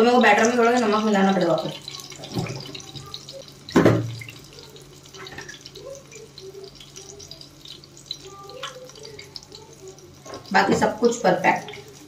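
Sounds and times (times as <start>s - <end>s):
meat frying in oil: 0.0s - 12.0s.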